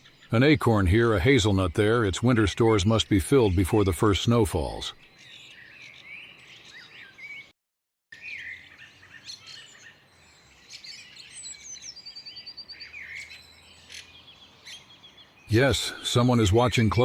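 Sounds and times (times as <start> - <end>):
birds chirping and calling: 0.0 - 7.5, 8.2 - 17.0.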